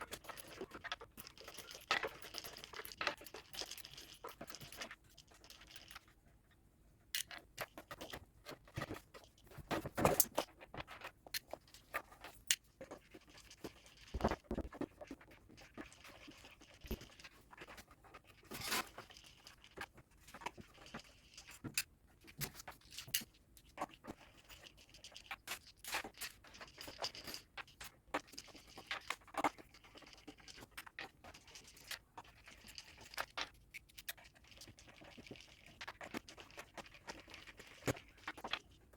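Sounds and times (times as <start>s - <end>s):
small objects clicking and knocking: 0.0s - 6.2s, 7.1s - 38.9s.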